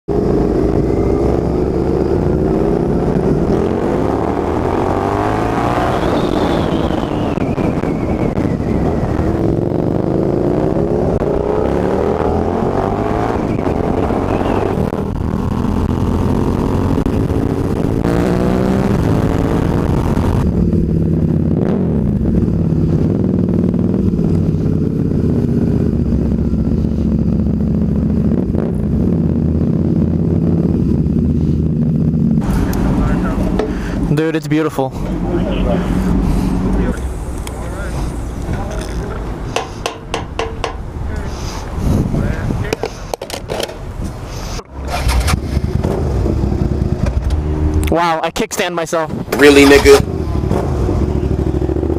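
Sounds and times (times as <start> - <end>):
wind rush: 0.1 - 34.2, 35.0 - 47.9
motorcycle engine revving: 0.1 - 43.9, 44.6 - 47.9, 49.1 - 51.9.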